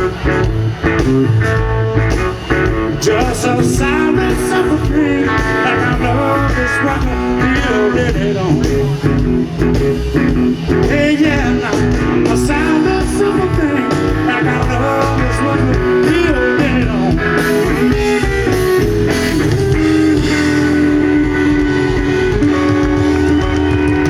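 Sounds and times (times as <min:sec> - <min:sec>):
bass and rhythm: 0:00.0 - 0:24.0
electric guitar lead: 0:00.0 - 0:24.0.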